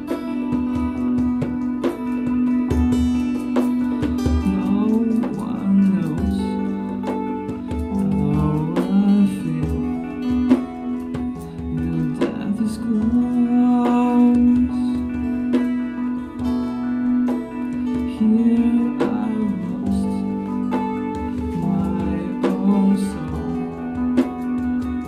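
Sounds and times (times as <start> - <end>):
guitar plucked and strummed: 0.0 - 25.0.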